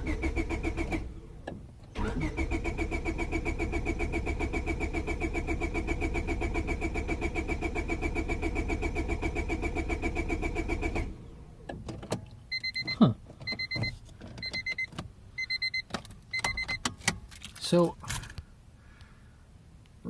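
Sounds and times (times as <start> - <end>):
car engine starter cranking: 0.0 - 18.4.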